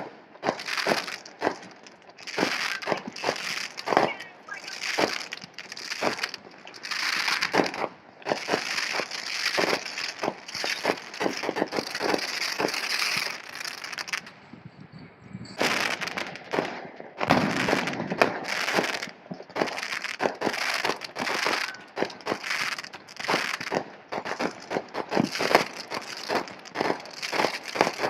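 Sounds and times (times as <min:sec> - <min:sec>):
fireworks crackling and popping: 0:00.0 - 0:14.4, 0:15.5 - 0:28.0.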